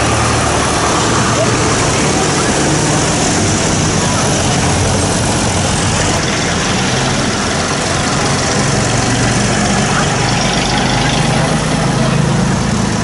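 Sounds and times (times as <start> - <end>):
tractor engines driving past: 0.0 - 13.0.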